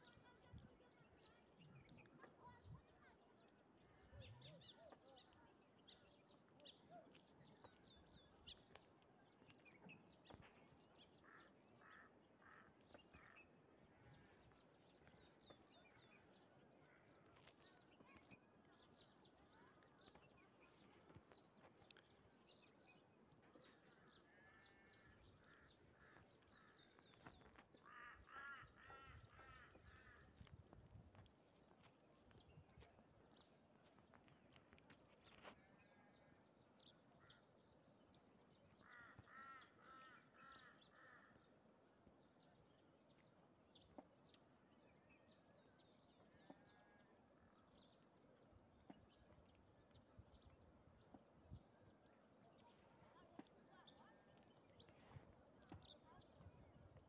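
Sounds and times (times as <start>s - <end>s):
faint birdsong and chirps: 0.0s - 57.0s.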